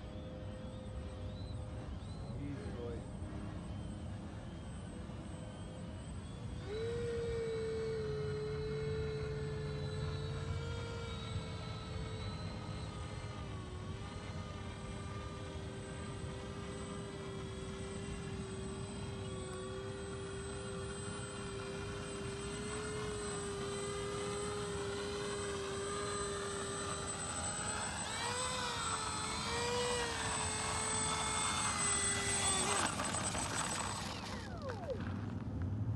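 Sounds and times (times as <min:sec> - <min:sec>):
model aircraft propeller whine: 0:00.0 - 0:35.9.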